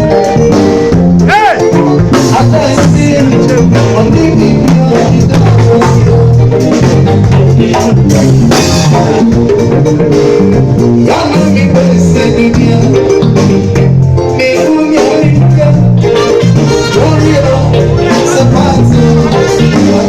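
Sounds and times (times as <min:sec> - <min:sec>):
drum kit steady beat: 0:00.0 - 0:20.0
live band music: 0:00.0 - 0:20.0.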